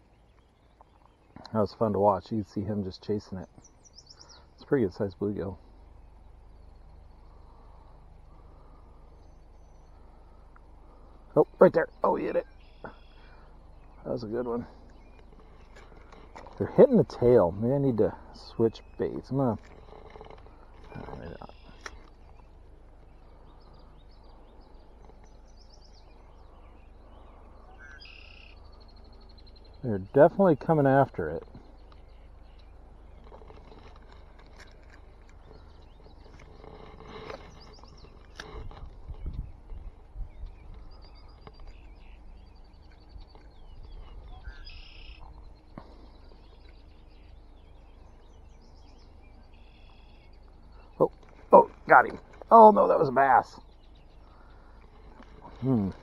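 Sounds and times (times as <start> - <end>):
birdsong chirps: 0.0 - 56.0
low steady background noise: 0.0 - 56.0
steady low rumble: 0.0 - 56.0.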